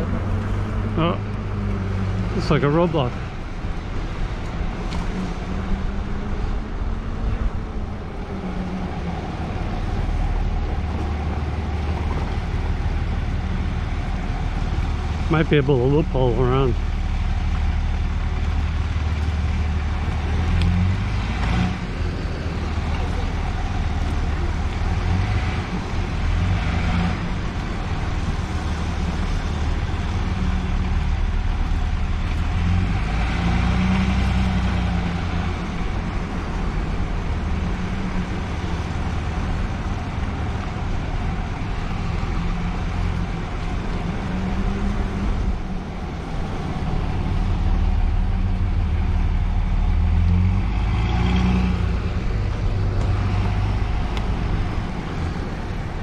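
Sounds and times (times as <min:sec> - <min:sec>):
wind and tyre noise: 0:00.0 - 0:56.0.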